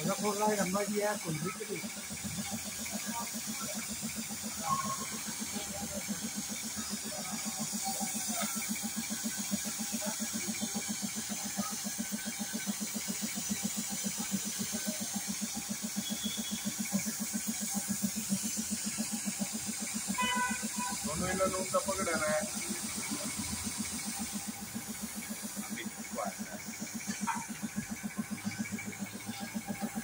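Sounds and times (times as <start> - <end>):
air compressor chugging: 0.0 - 30.0
spray gun hissing: 0.0 - 30.0.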